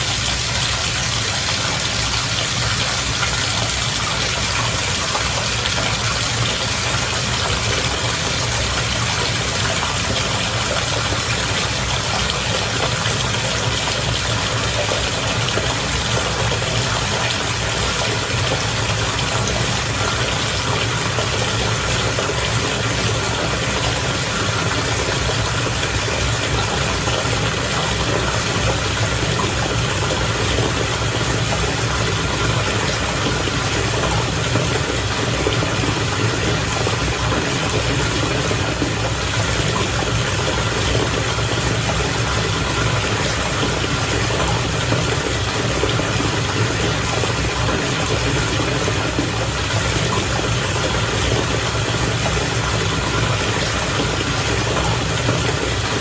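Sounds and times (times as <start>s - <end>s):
bath water bubbling: 0.0s - 56.0s.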